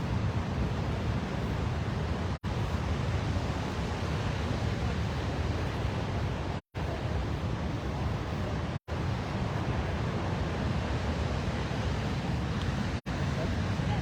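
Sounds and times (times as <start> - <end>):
waterfall roaring: 1.7 - 14.0.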